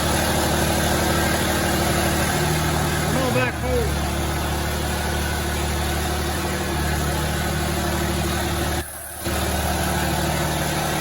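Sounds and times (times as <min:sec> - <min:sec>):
diesel pickup engine idling: 0:00.0 - 0:11.0.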